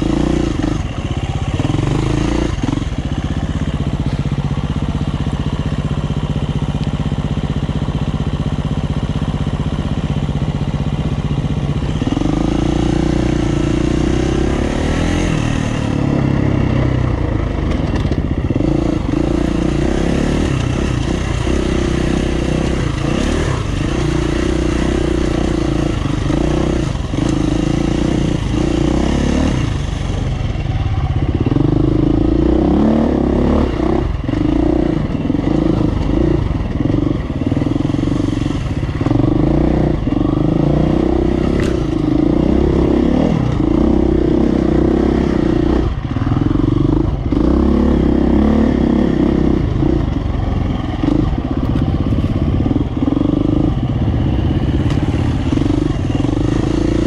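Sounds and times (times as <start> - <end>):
dirt bike engine revving: 0.0 - 5.3, 11.2 - 57.0.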